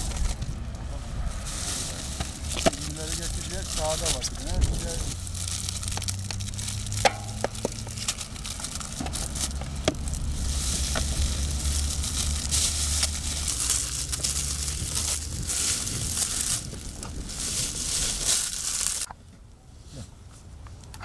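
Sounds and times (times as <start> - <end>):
plastic bag crinkling: 1.4 - 19.1.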